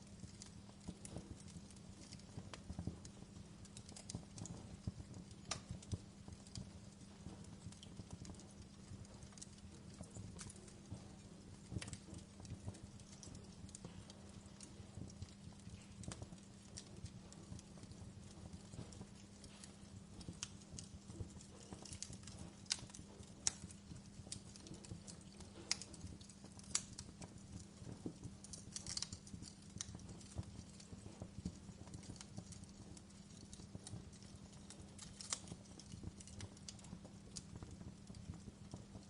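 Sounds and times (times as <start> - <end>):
fire crackling and popping: 0.0 - 39.0
low rumble of fire: 0.0 - 39.0.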